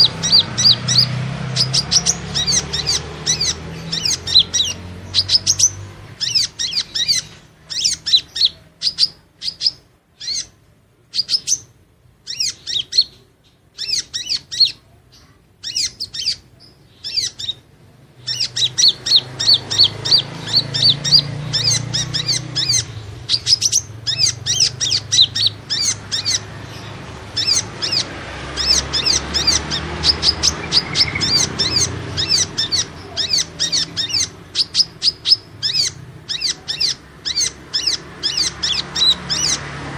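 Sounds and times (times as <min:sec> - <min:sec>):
high bird chirps: 0:00.0 - 0:39.9.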